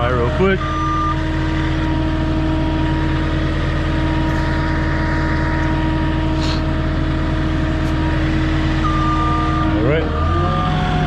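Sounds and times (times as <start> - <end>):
forklift engine droning: 0.0 - 11.0.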